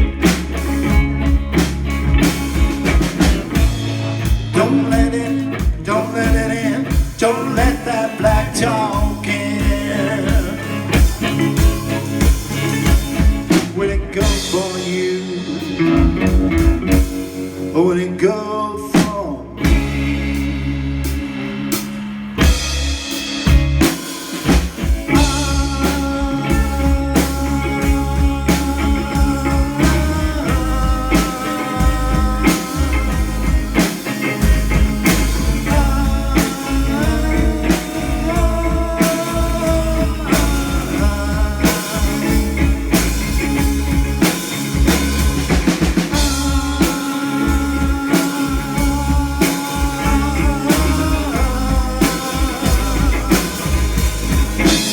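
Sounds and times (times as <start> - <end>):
drum kit beat: 0.0 - 17.8, 19.0 - 54.9
bass and guitar: 0.0 - 54.9.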